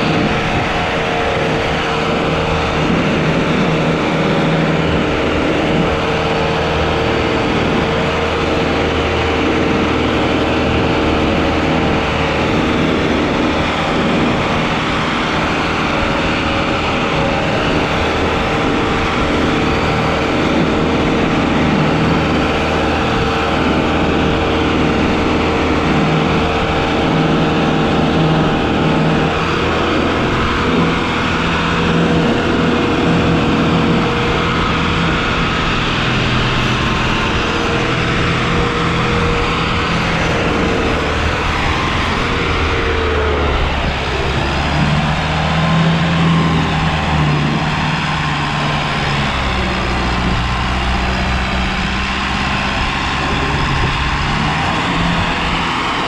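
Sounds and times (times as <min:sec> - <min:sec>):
diesel tractor engine under load: 0:00.0 - 0:56.0.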